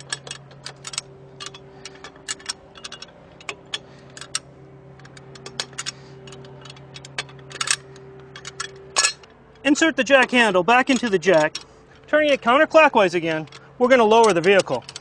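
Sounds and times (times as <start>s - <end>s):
lug wrench metal clicks: 0.0s - 12.5s, 13.3s - 15.0s.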